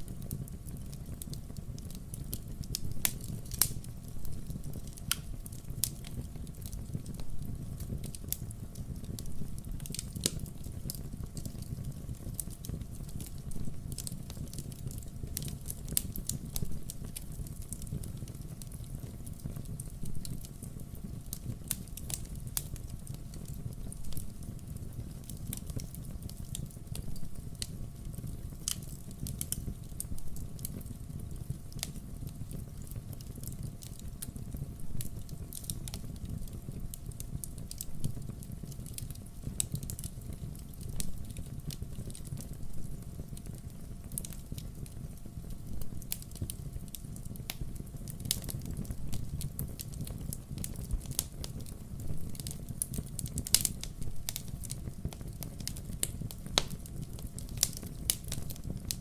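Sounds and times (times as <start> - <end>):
firewood crackling and popping: 0.0 - 59.0
low fire rumble: 0.0 - 59.0.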